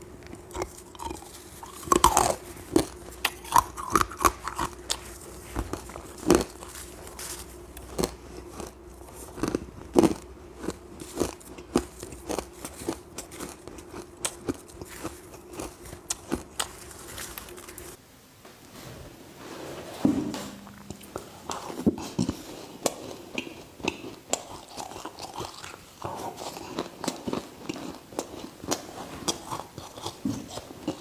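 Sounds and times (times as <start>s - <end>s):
person chewing ice: 0.0s - 18.0s, 21.0s - 31.0s.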